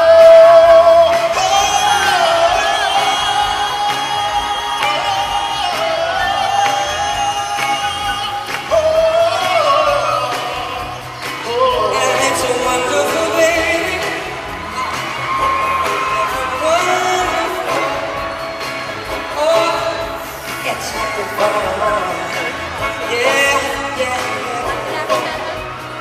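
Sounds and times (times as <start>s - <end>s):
live band playing: 0.0s - 26.0s
man singing: 0.0s - 26.0s.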